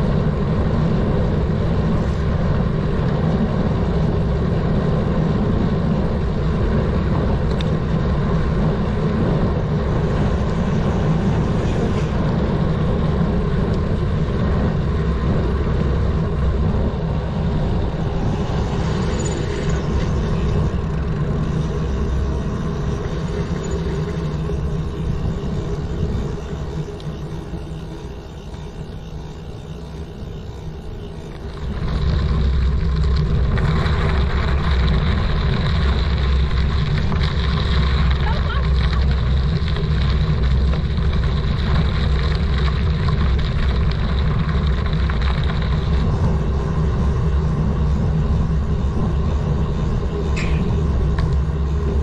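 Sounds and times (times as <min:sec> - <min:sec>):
bicycle tyres rolling: 0:00.0 - 0:52.0.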